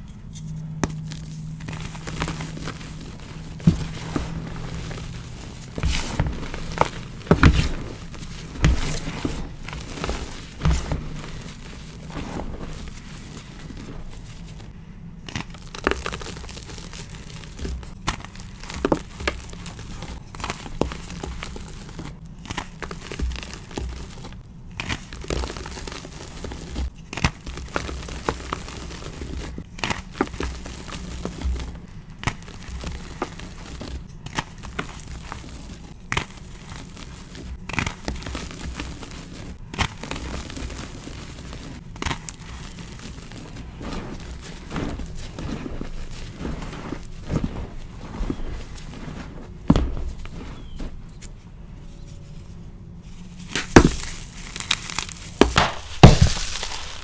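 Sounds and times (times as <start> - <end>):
gritty crumbling powder: 0.0 - 57.0
chalk crunching and snapping: 0.2 - 52.3, 53.1 - 57.0.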